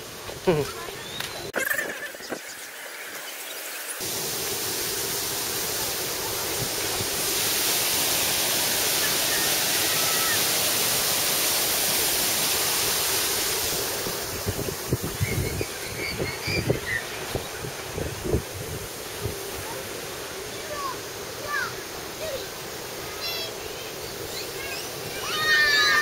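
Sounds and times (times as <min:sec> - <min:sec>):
stream water rushing over rocks: 0:03.9 - 0:26.0.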